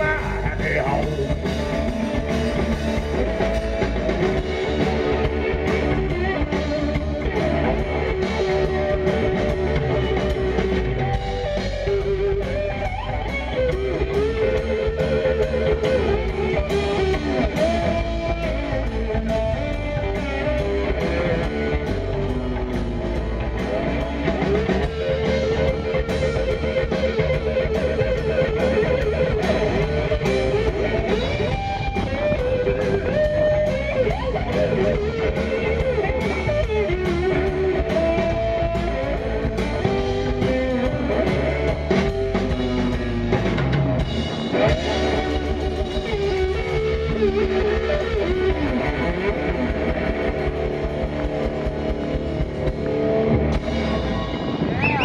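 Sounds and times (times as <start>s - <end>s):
drum kit: 0.0s - 55.0s
electric guitars with bending notes: 0.0s - 55.0s.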